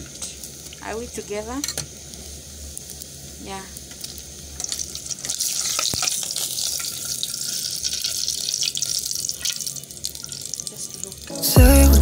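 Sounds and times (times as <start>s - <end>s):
bread sizzling in hot oil: 0.0s - 11.3s.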